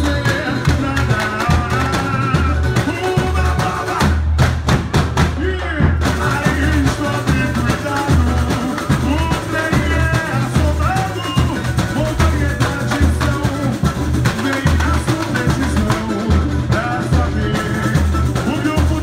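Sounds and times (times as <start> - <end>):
person singing melody: 0.0 - 4.3, 5.4 - 19.0
snare and tamborim hits: 0.0 - 19.0
surdo bass drums beating: 0.0 - 19.0.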